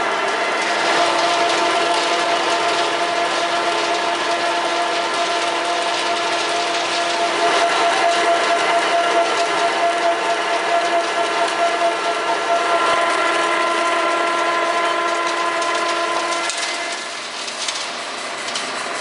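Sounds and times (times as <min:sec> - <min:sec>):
lathe headstock whine: 0:00.0 - 0:19.0
lathe mechanical rush: 0:00.0 - 0:19.0.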